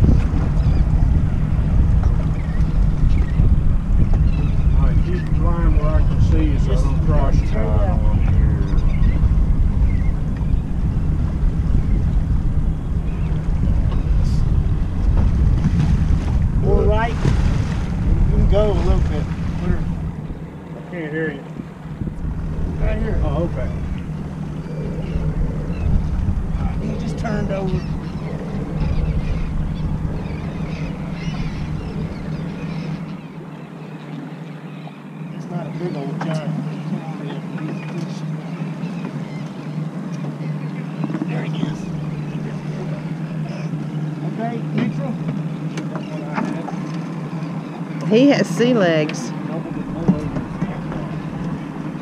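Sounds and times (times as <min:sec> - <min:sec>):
boat motor running: 0:00.0 - 0:52.0
wind buffeting microphone: 0:00.0 - 0:52.0.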